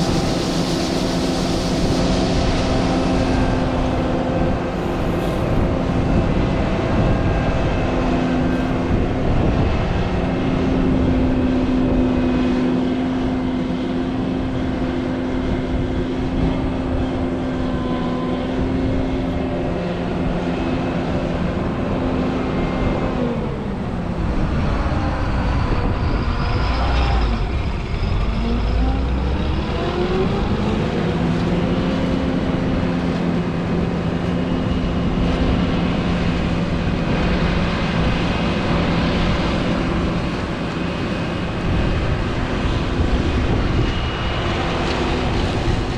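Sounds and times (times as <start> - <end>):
threshing machinery running: 0.0 - 45.9.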